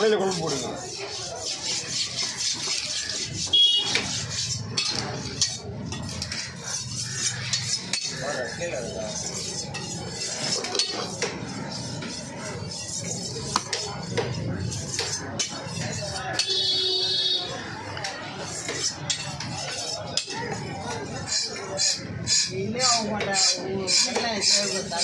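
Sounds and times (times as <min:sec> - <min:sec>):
knife slicing and scraping fish: 0:00.0 - 0:25.0.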